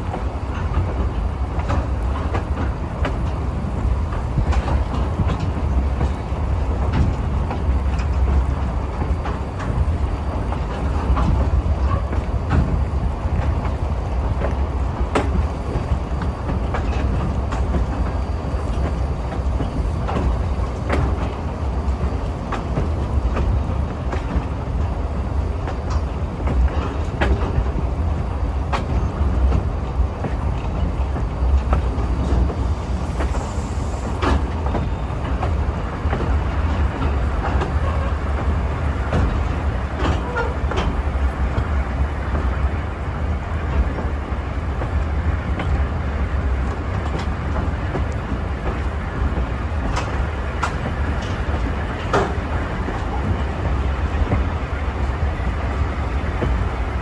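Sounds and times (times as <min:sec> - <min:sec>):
clicks and knocks from train wheels: 0:00.0 - 0:57.0
train rumbling along track: 0:00.0 - 0:57.0.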